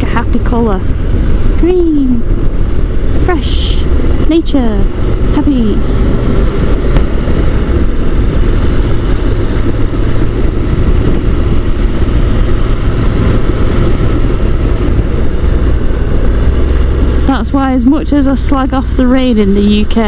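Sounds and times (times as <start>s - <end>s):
motorcycle engine drone: 0.0s - 20.0s
wind rushing on microphone: 0.0s - 20.0s.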